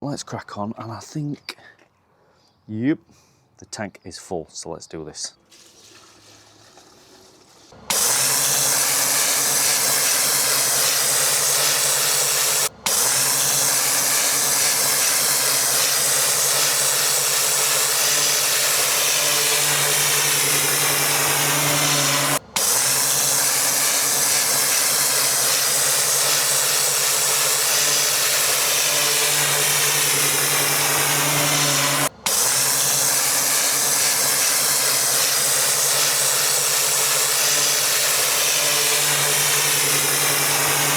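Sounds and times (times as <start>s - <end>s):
pressure washer machine hum: 6.2s - 40.9s
pressure washer spraying hiss: 8.0s - 40.9s.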